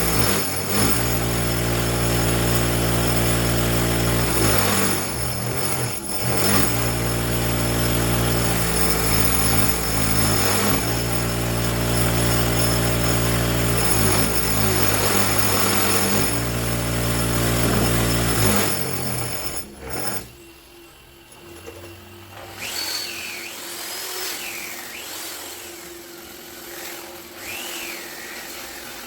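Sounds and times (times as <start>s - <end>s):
power tool spinning wheel: 0.0s - 29.0s.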